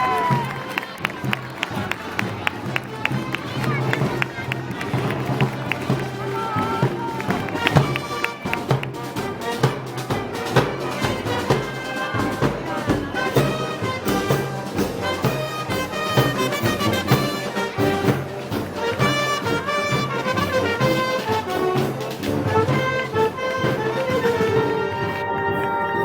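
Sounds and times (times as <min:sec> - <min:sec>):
steady drum beat: 0:00.0 - 0:25.2
trumpets and trombones: 0:00.0 - 0:26.0.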